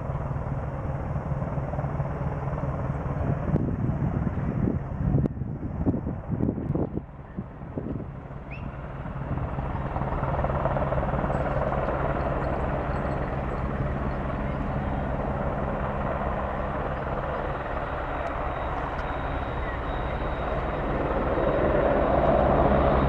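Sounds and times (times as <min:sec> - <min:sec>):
helicopter rotor and turbine: 0:00.0 - 0:23.0.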